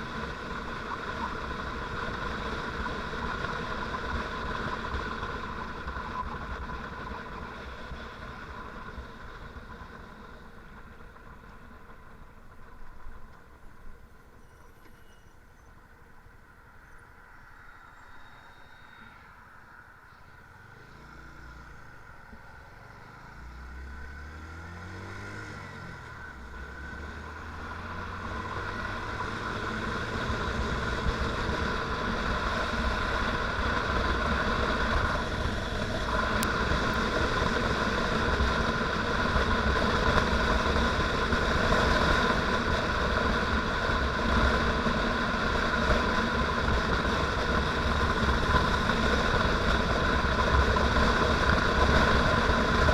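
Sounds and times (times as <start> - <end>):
motorcycle engine accelerating: 0.0 - 13.3, 20.5 - 52.9.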